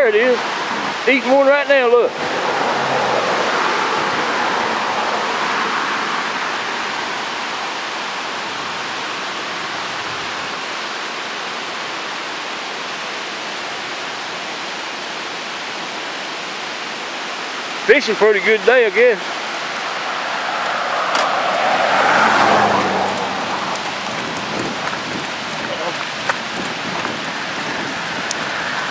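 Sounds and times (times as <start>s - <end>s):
river rushing through rapids: 0.0s - 28.9s.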